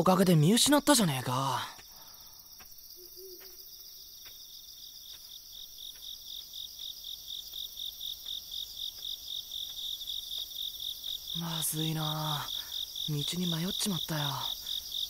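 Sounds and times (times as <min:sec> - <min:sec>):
crickets trilling: 0:00.0 - 0:15.0
rhythmic cricket chirping: 0:00.0 - 0:15.0.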